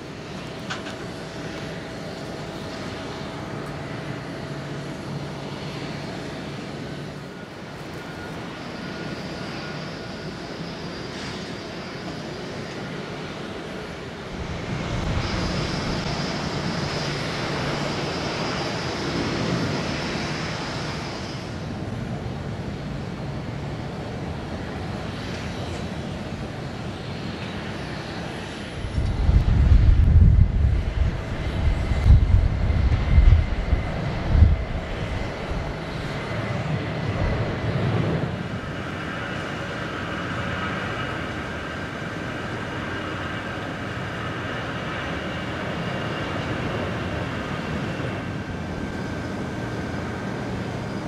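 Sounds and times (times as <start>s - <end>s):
jet engines whining: 0.0s - 51.0s.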